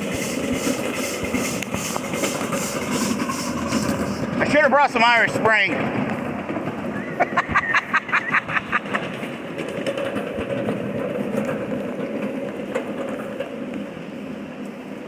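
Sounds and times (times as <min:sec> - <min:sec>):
locomotive exhaust chuffs: 0:00.0 - 0:15.0
train rolling rumble: 0:00.0 - 0:15.0.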